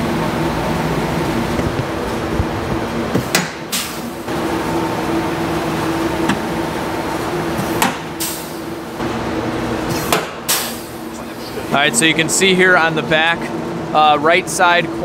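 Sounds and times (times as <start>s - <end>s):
workshop hum: 0.0s - 15.0s.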